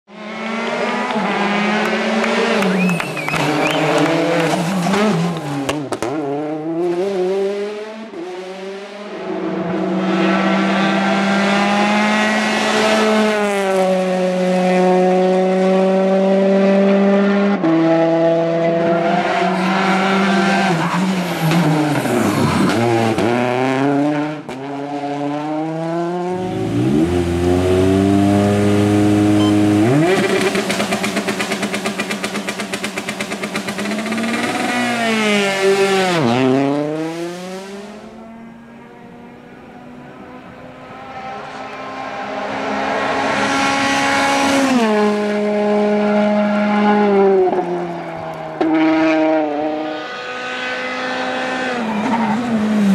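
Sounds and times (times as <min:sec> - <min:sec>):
rally car engine revving: 0:00.1 - 0:52.9.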